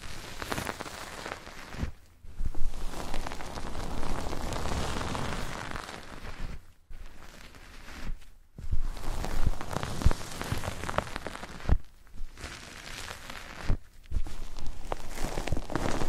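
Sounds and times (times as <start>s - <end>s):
crackling and scratching on microphone: 0.0s - 16.0s.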